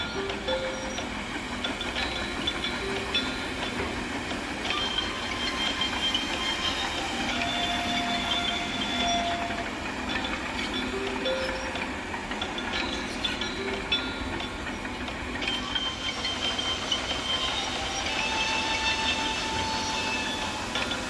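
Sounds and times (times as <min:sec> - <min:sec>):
excavator machine noise: 0:00.0 - 0:21.0
steel on steel squeals: 0:00.0 - 0:21.0.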